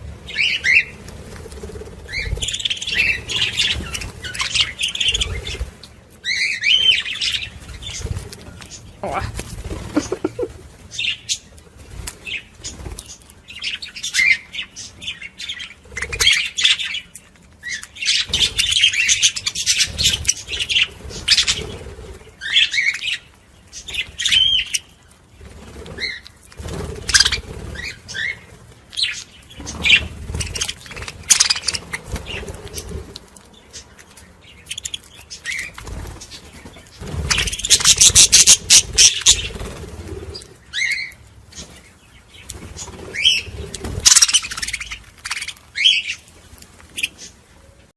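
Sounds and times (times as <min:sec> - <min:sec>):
budgerigars chattering and chirping: 0:00.3 - 0:01.0, 0:02.0 - 0:11.5, 0:12.2 - 0:26.4, 0:27.0 - 0:33.0, 0:33.6 - 0:46.3.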